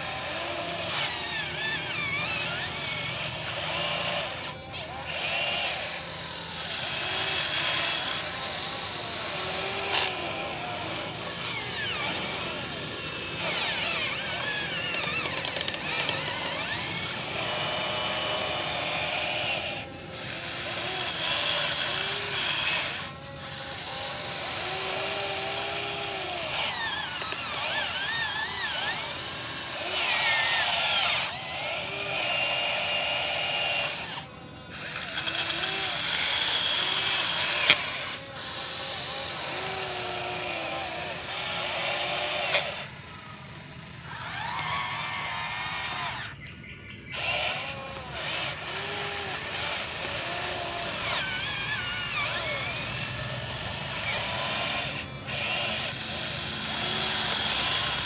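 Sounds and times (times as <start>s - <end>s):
toy excavator motors whining: 0.0s - 58.0s.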